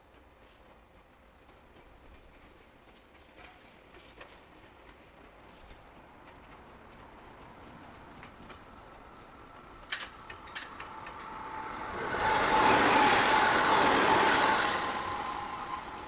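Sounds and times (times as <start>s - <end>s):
electric train passing close by: 0.0s - 16.0s.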